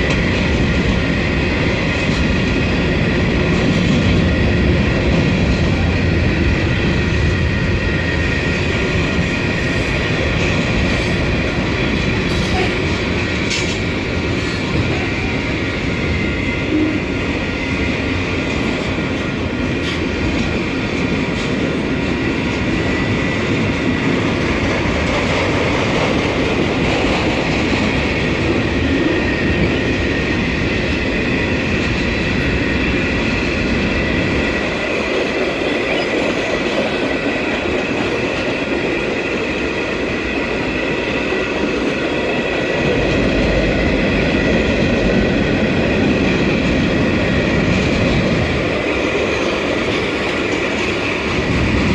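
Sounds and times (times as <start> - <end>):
freight train rolling: 0.0 - 51.9.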